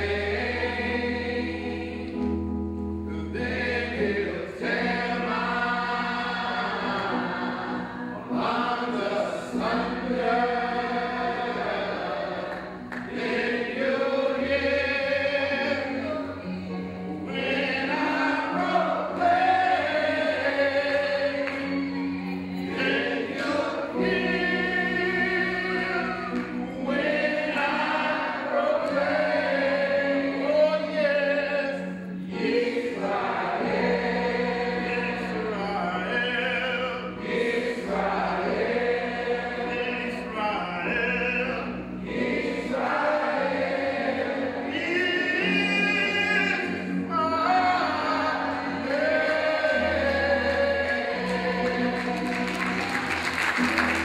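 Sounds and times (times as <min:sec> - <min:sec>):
electronic keyboard low notes: 0:00.0 - 0:52.9
congregation singing: 0:00.0 - 0:54.0.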